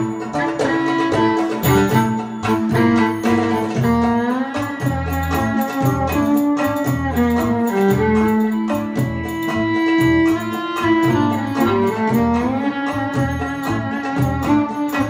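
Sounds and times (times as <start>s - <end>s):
bass: 0.0s - 15.0s
dumbek drum strokes: 0.0s - 15.0s
mandolin: 0.0s - 15.0s
violin melody with sliding notes: 0.0s - 15.0s.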